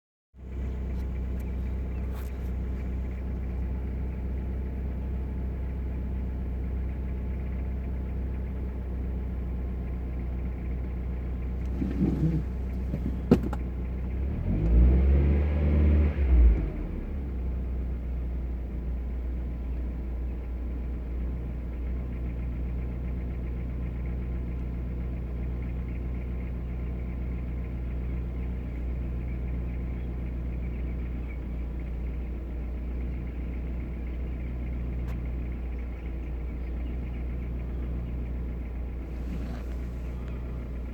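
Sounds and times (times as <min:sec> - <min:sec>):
car engine revving and idling: 0:00.4 - 0:40.9.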